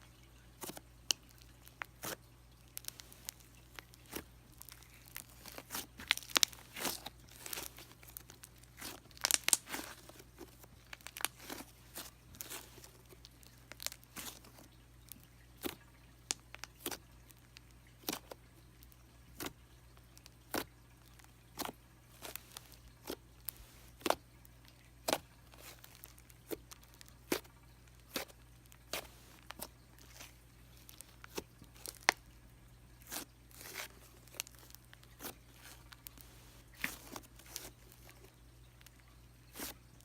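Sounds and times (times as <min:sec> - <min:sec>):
slime crackling and popping: 0:00.6 - 0:32.3, 0:33.0 - 0:40.0.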